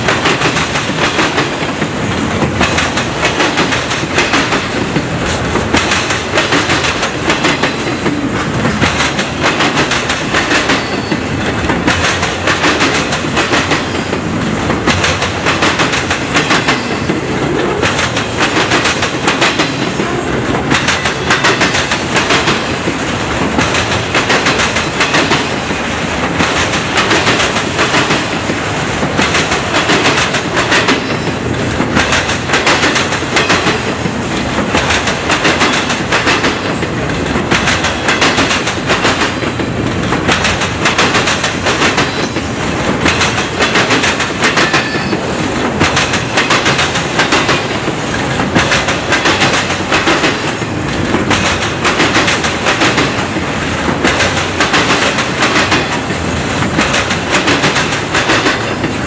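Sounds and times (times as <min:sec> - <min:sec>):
freight train rumbling past: 0:00.0 - 0:59.0
train wheels clacking: 0:00.0 - 0:59.0.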